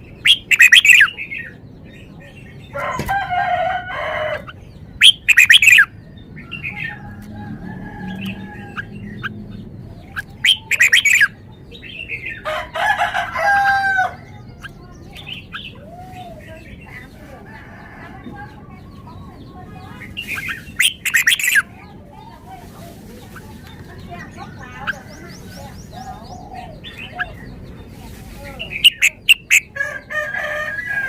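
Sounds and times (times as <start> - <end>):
bird singing: 0.0 - 31.0.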